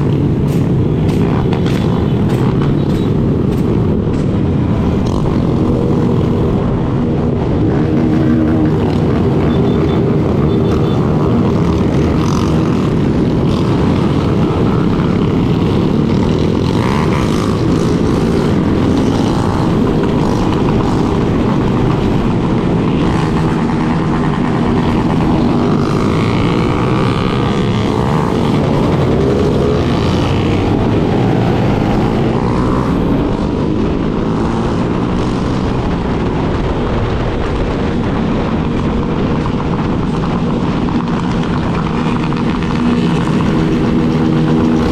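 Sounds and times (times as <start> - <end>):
motorcycle engine running: 0.0 - 44.9
other motorcycles riding: 0.0 - 44.9
wind rush on microphone: 0.0 - 44.9.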